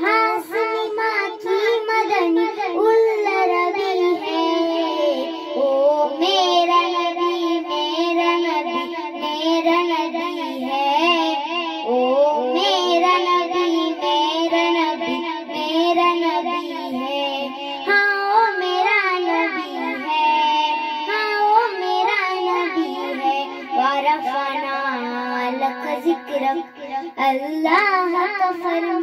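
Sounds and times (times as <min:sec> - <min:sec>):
girl singing into a microphone: 0:00.0 - 0:29.0.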